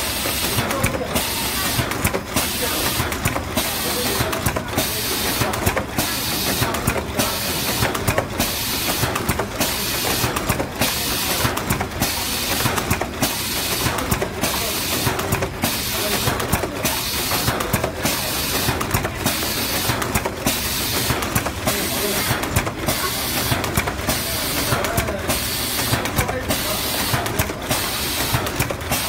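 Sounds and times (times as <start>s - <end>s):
mechanical clatter: 0.0s - 29.0s
packaging machine hiss: 0.0s - 29.0s.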